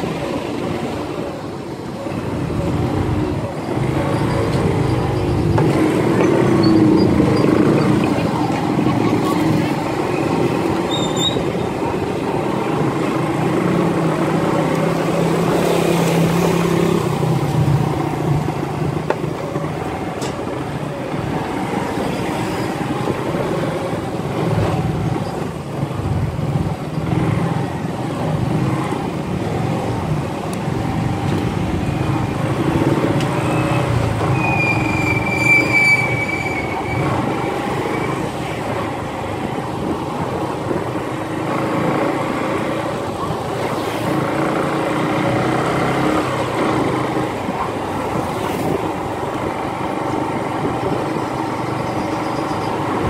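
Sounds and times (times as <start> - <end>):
road noise: 0.0 - 53.0.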